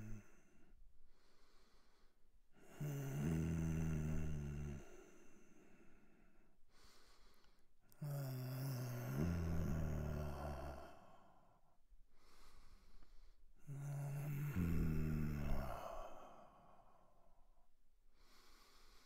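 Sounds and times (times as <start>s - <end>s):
man breathing heavily: 1.1s - 3.0s, 4.7s - 17.3s, 18.2s - 19.0s.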